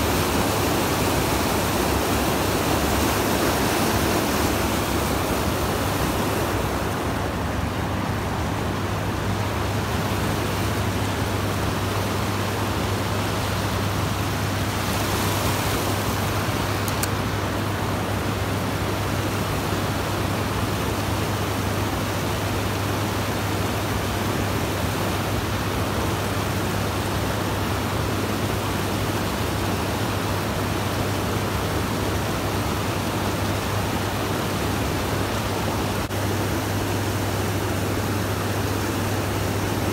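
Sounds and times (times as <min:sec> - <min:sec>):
river water rushing over rapids: 0:00.0 - 0:39.9.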